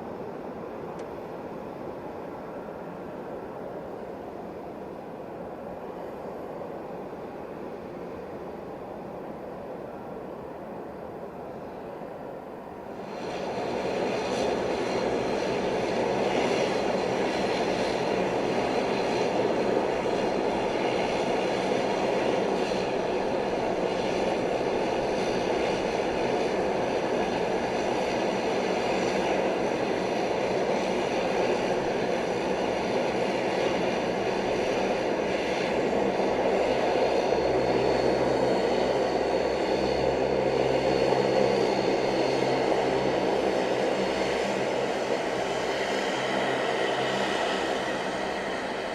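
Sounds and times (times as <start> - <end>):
jet engines rushing: 0.0 - 48.9.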